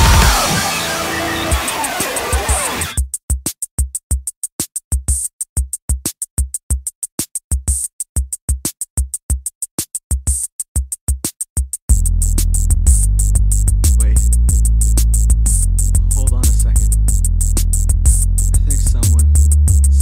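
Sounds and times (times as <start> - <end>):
drum machine beat: 0.0 - 20.0.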